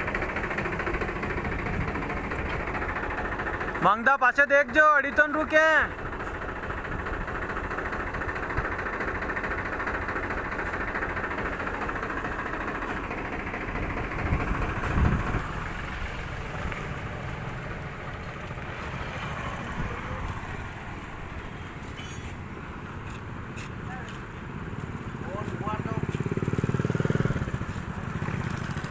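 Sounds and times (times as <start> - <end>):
engine idling: 0.0 - 28.9.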